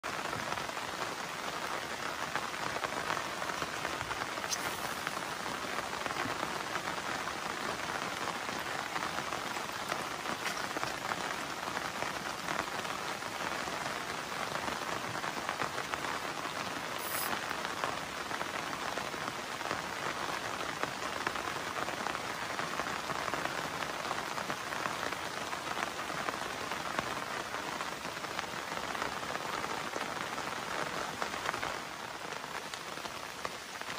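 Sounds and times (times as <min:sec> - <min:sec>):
rain falling on river: 0:00.0 - 0:33.9.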